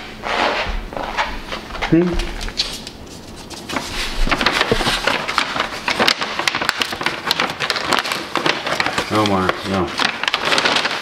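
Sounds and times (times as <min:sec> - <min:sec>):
paper bag crinkling: 0:01.0 - 0:11.0.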